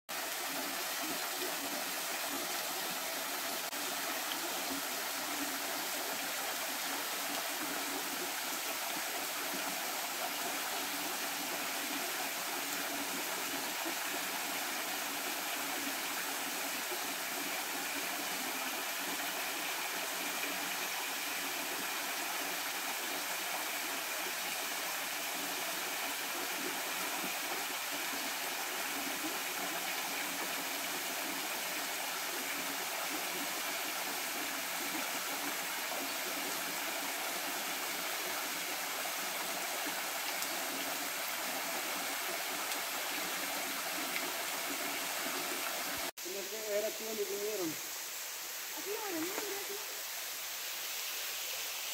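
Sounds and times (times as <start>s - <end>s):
small waterfall rushing hiss: 0.1s - 51.9s.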